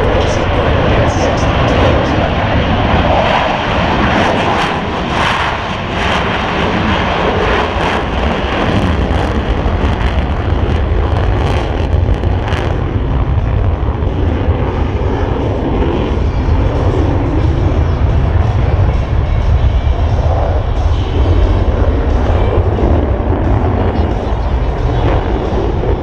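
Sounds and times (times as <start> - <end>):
jets passing overhead: 0.0 - 26.0.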